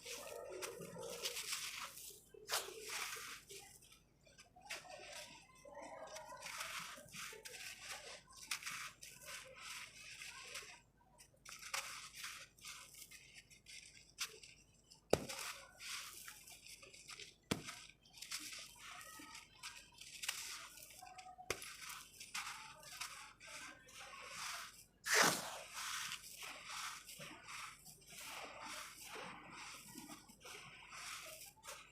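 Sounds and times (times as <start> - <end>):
sand-cement crumbling and crunching: 0.0 - 5.4, 6.1 - 10.8, 11.4 - 31.9.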